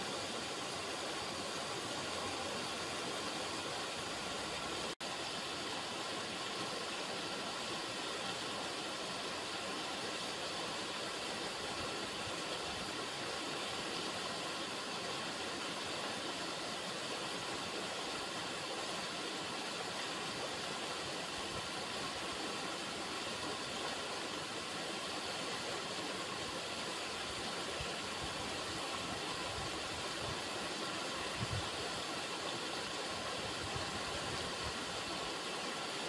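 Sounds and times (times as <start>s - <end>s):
river water running over rocks: 0.0s - 36.0s.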